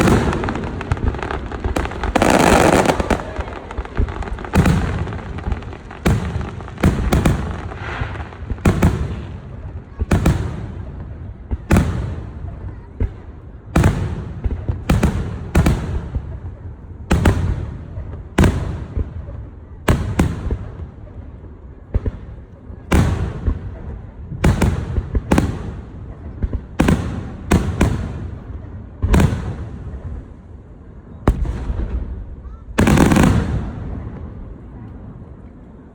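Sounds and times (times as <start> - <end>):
fireworks bangs with rumbling echo: 0.0 - 35.9.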